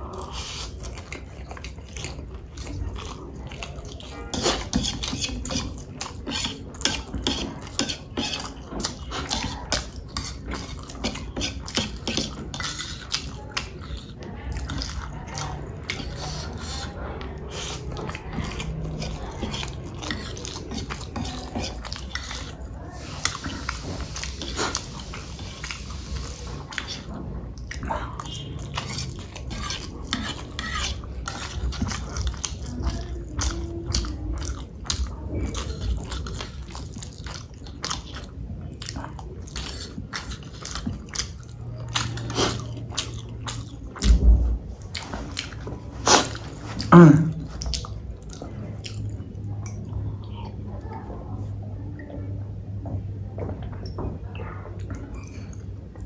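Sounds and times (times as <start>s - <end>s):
chewing and eating noodles: 0.0s - 56.0s.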